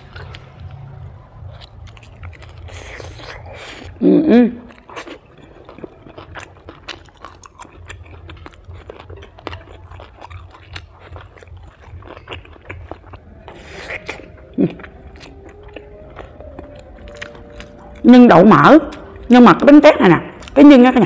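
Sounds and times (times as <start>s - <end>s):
close-miked crunchy chewing: 0.0s - 4.0s, 4.6s - 19.7s.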